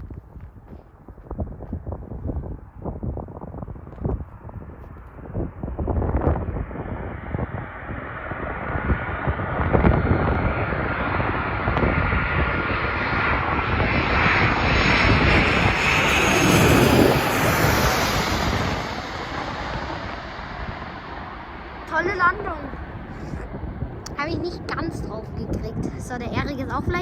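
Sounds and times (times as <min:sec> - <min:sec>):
wind buffeting microphone: 0:00.0 - 0:27.0
jet airliner passing: 0:01.0 - 0:27.0.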